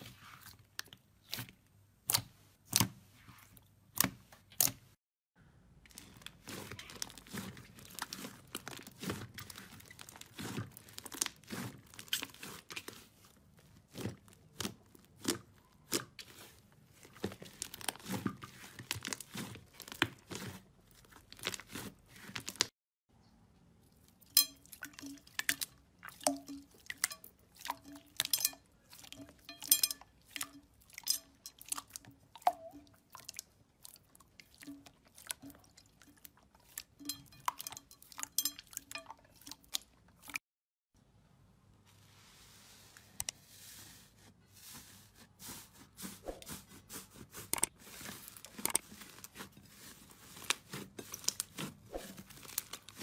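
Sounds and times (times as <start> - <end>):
hands kneading slime: 0.0 - 5.0, 5.8 - 22.7, 23.8 - 40.4, 42.1 - 53.0.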